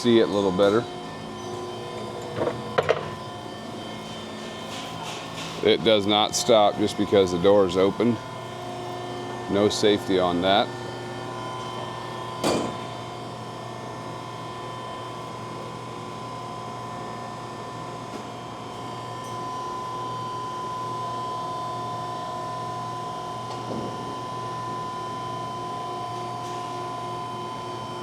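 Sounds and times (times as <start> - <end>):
hydraulic pump and motor humming: 0.0 - 28.0.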